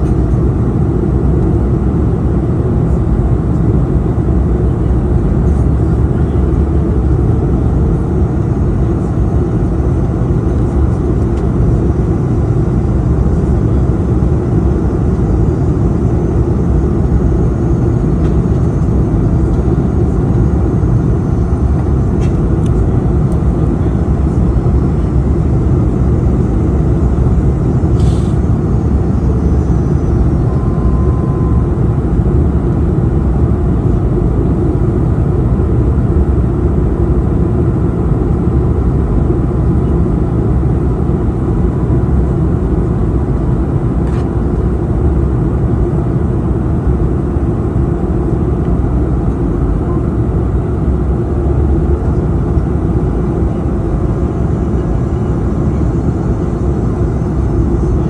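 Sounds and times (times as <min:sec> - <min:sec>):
airliner turbofan roar: 0:00.0 - 0:58.0.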